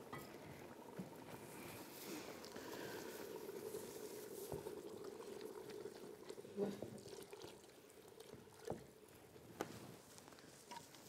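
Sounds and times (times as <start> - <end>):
water pouring into pot: 0.0 - 9.4.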